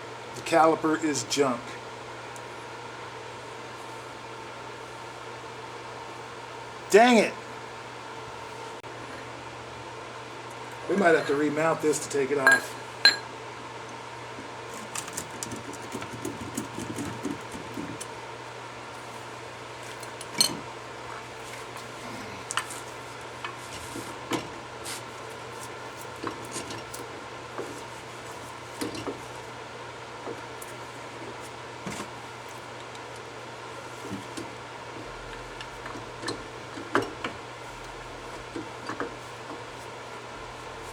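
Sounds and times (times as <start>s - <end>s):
steady low hum: 0.0s - 14.8s, 17.0s - 40.9s.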